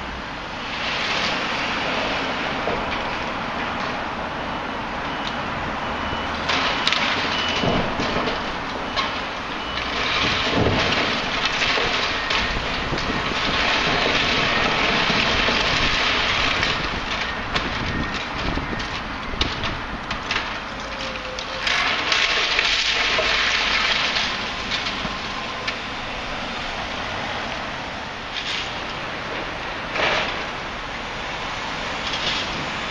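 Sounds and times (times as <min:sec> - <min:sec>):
rubble and timber crashing: 0:00.6 - 0:32.9.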